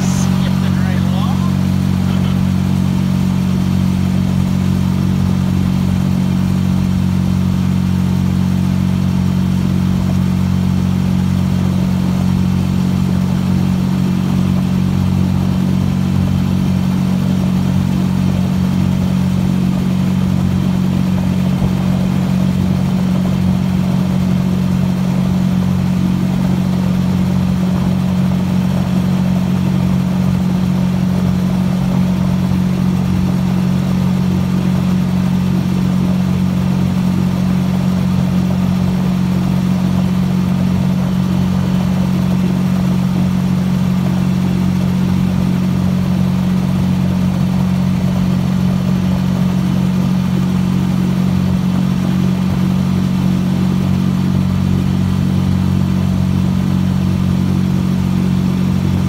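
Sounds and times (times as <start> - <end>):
small boat motor droning: 0.0 - 59.0.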